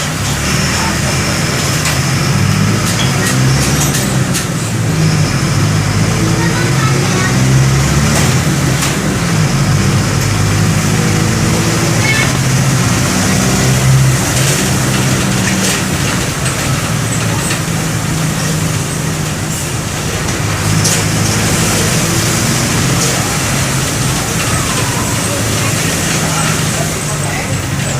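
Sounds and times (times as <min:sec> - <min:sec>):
bus diesel engine running: 0:00.0 - 0:27.9.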